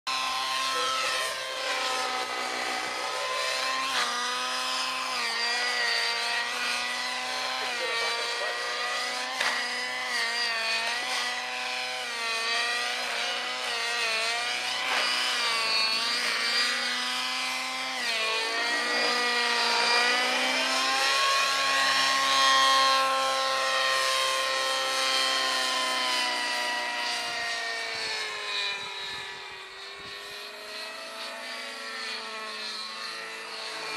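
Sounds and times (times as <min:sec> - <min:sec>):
model helicopter motor whine: 0:00.1 - 0:33.9.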